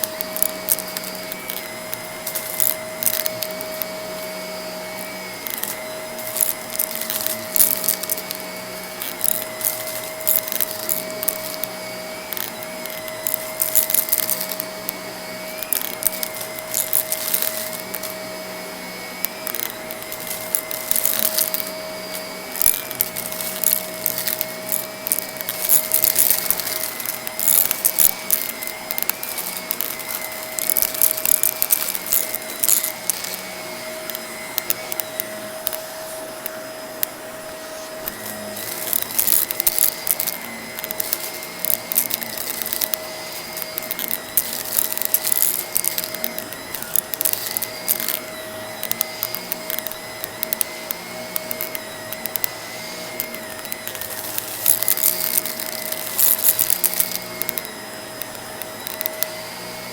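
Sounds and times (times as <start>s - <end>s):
debris crackling in vacuum hose: 0.0s - 59.9s
vacuum cleaner motor whine: 0.0s - 59.9s.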